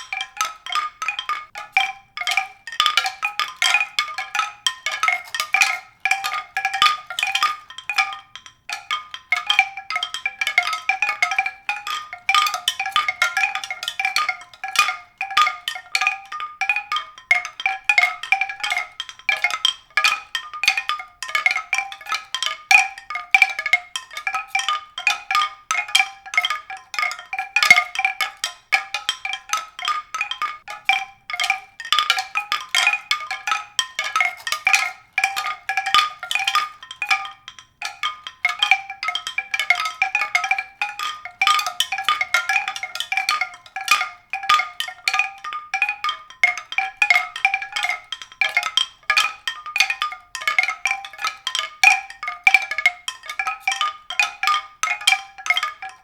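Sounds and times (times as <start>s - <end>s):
struck ringing percussion notes: 0.0s - 56.0s.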